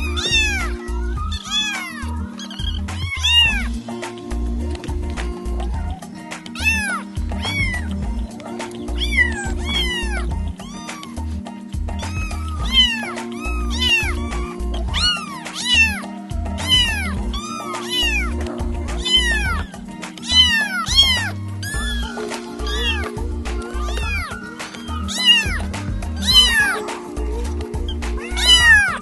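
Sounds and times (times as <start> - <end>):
kittens meowing: 0.0 - 3.8, 4.8 - 29.0
background music with bass: 0.0 - 29.0.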